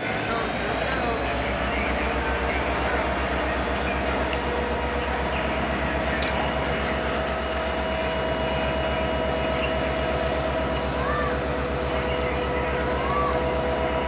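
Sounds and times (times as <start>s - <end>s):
diesel locomotive engine throb: 0.0s - 14.0s
steady whine: 0.0s - 14.0s.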